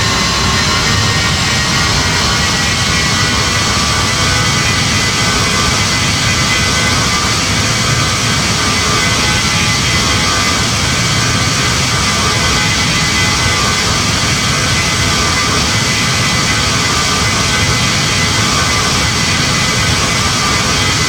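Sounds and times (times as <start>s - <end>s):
jet engine drone: 0.0s - 21.0s.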